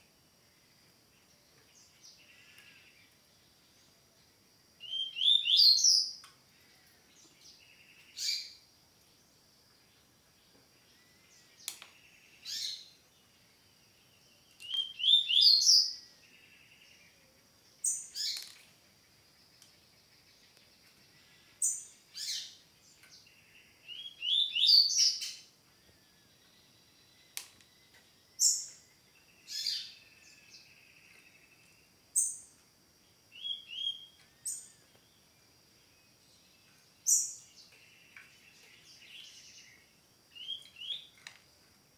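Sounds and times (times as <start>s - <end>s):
faint high-pitched whine: 0.0s - 41.9s
songbird singing: 0.0s - 41.9s.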